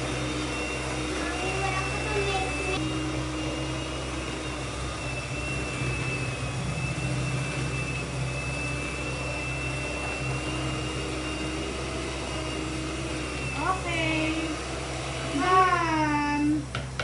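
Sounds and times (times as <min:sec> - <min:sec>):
electric mixer whining: 0:00.0 - 0:17.0.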